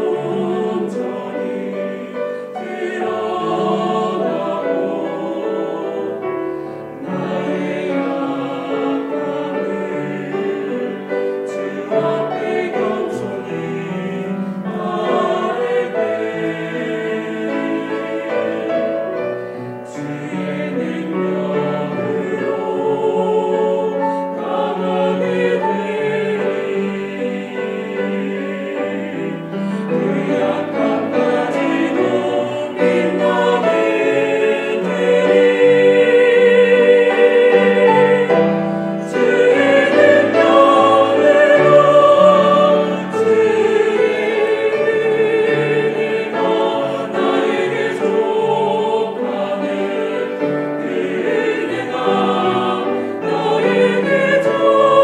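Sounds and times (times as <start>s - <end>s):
choir singing a hymn: 0.0s - 55.0s
grand piano accompaniment: 0.0s - 55.0s.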